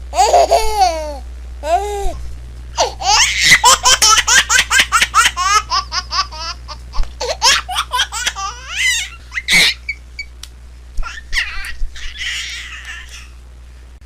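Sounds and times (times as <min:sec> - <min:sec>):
baby laughing: 0:00.1 - 0:02.2, 0:02.8 - 0:10.0, 0:11.0 - 0:13.3.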